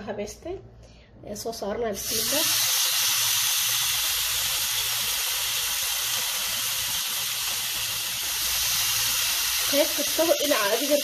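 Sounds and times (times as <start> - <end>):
chicken sizzling on grill pan: 2.0 - 11.0.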